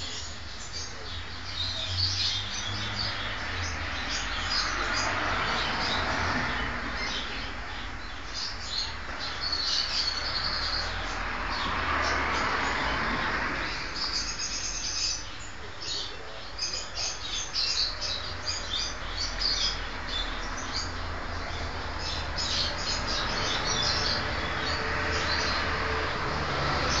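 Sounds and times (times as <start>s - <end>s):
high chirps and tweets: 0.0s - 27.0s.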